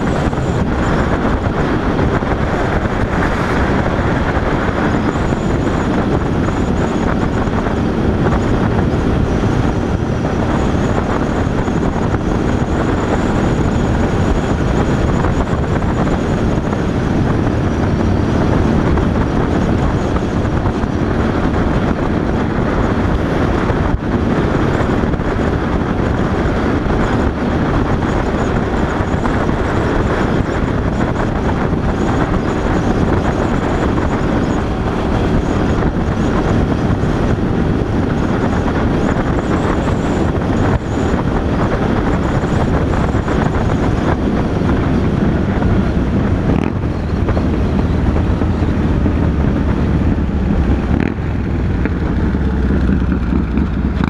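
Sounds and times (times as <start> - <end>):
motorcycle engine rumble: 0.0 - 54.0
motorcycle running ahead: 0.0 - 54.0
wind and road noise: 0.0 - 54.0.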